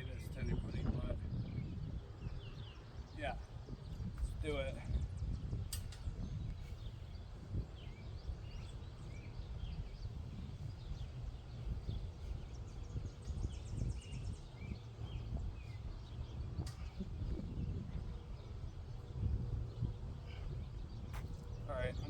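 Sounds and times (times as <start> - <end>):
low wind rumble on microphone: 0.0 - 22.0
small birds chirping and singing: 0.0 - 22.0.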